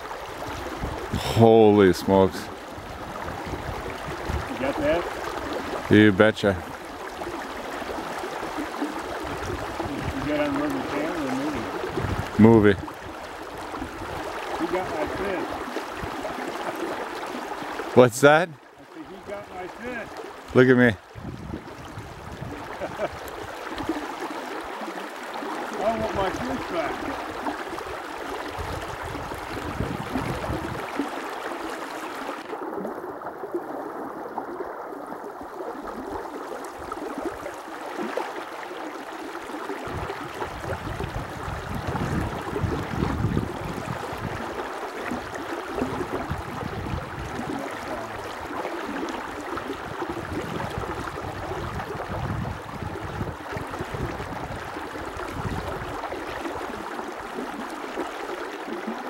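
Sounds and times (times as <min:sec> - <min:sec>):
river water rushing: 0:00.0 - 0:34.5, 0:35.2 - 0:52.2, 0:52.8 - 0:59.0.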